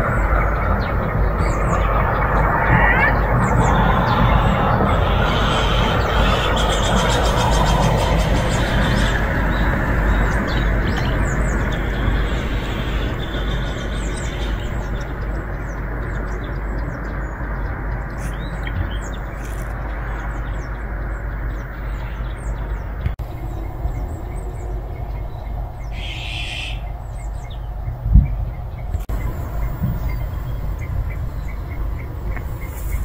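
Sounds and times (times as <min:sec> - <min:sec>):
low outdoor rumble: 0:00.0 - 0:33.0
small birds chirping: 0:00.0 - 0:33.0.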